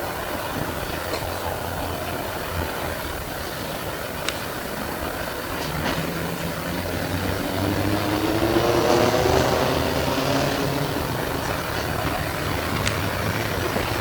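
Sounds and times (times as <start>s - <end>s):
tram motor whine: 0.0s - 14.0s.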